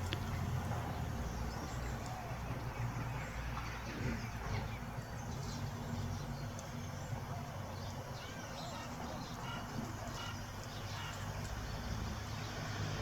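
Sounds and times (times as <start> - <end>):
distant traffic rumble: 0.0 - 13.0
small birds chirping: 0.0 - 13.0.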